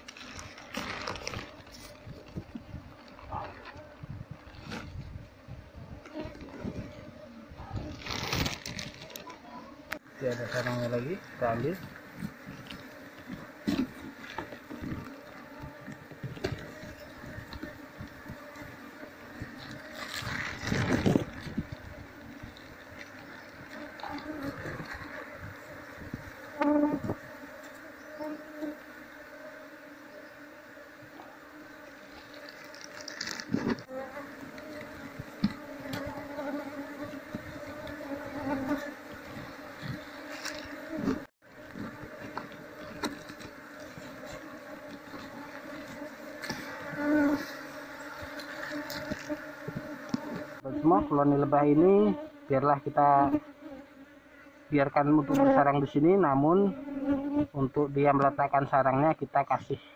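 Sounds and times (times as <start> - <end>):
bees buzzing: 8.5 - 55.7, 56.6 - 57.5.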